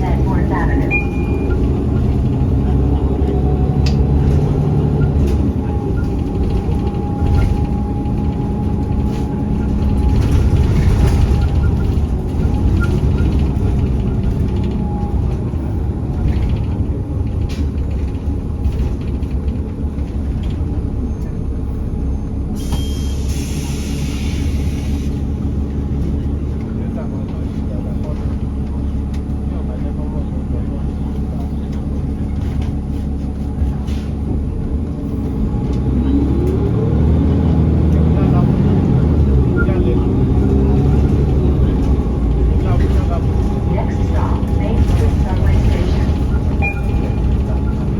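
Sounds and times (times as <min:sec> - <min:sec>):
transit vehicle rumble: 0:00.0 - 0:47.9.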